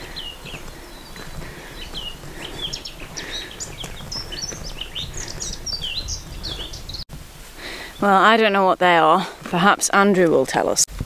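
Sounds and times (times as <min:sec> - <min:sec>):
wild birds chirping: 0:00.0 - 0:09.7.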